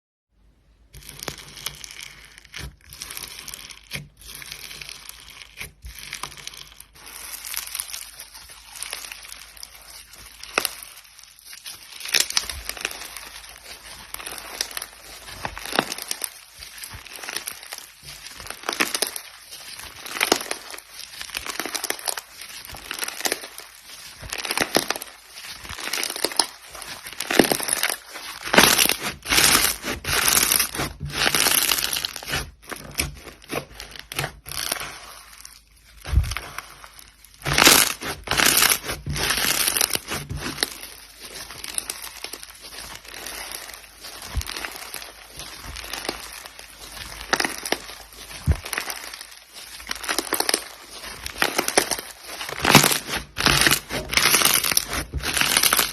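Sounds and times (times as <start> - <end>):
slime crackling and squishing: 0.4 - 55.9.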